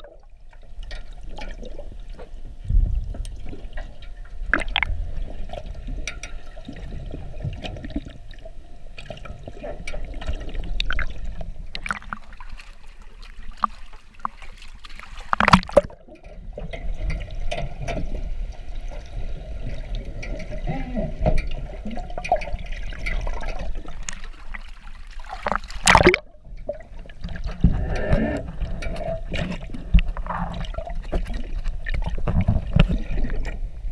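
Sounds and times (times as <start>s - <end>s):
muffled underwater swishing and bubbling: 0.0s - 33.9s.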